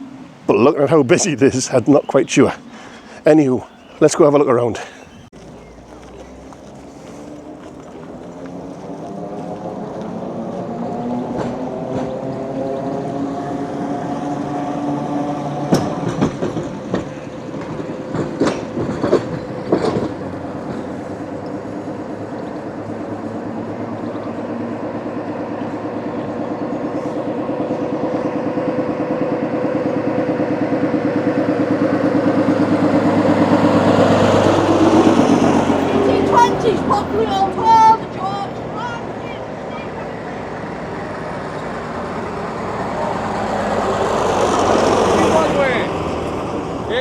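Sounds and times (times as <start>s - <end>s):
rail vehicle running on track: 4.9s - 47.0s.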